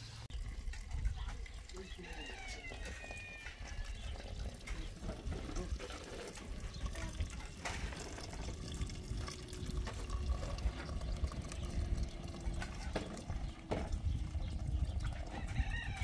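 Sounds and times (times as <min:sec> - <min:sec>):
water running: 0:00.0 - 0:16.0.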